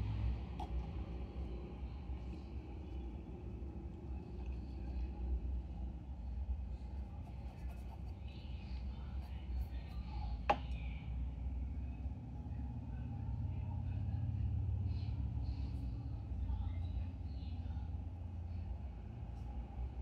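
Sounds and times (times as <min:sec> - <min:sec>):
low room rumble: 0:00.0 - 0:20.0.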